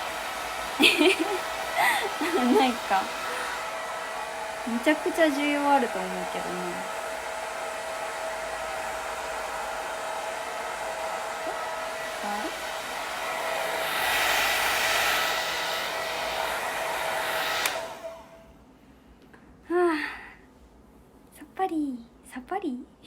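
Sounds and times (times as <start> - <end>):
hair dryer whining: 0.0 - 18.5.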